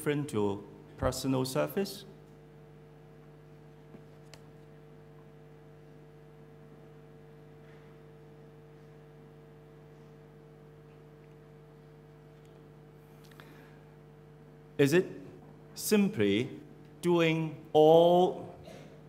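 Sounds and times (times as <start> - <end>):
faint mains hum: 0.0 - 19.0.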